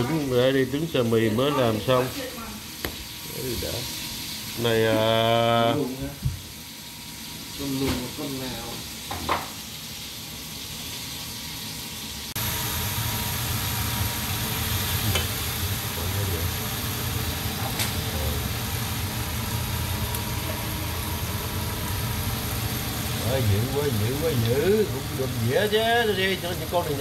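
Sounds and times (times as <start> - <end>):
meat sizzling in a frying pan: 0.0 - 27.0.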